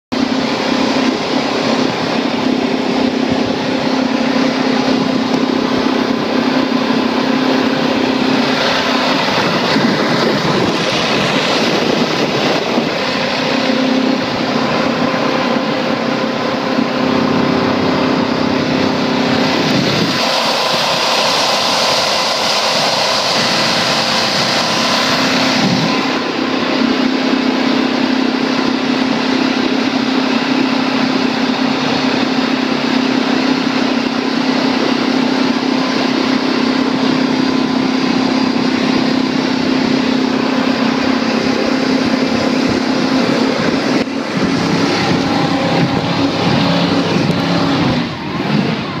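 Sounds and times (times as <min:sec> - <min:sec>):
motorboat engine droning: 0:00.0 - 0:49.0
rush of wind and water: 0:00.1 - 0:49.0.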